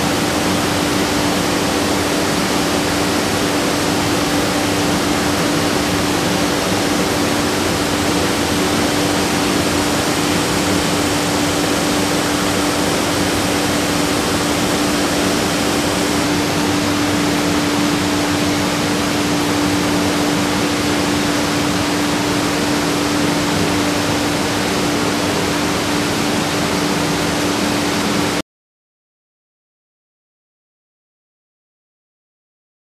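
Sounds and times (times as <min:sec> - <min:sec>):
constant hum: 0:00.0 - 0:28.4
machine rushing noise: 0:00.0 - 0:28.4.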